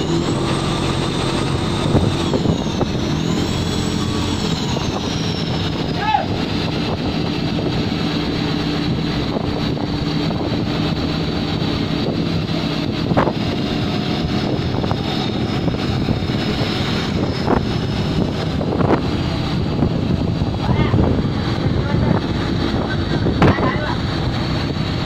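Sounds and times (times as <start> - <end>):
boat engine running: 0.0 - 25.0
water rushing past hull: 0.0 - 25.0
wind on microphone: 0.0 - 25.0.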